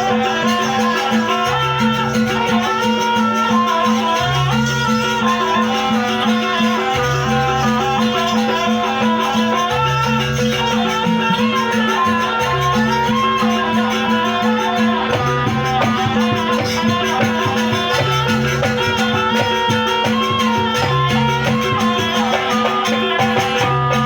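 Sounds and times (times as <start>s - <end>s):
rattling shaker percussion: 0.0s - 24.0s
traditional ensemble music: 0.0s - 24.0s.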